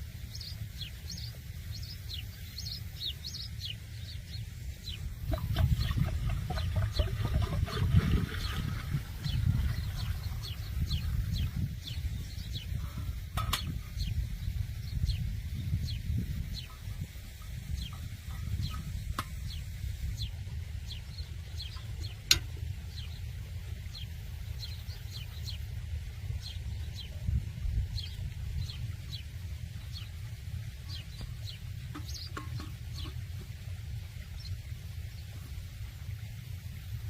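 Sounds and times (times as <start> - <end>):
steady low rumble: 0.0 - 37.0
birds chirping: 0.2 - 35.5.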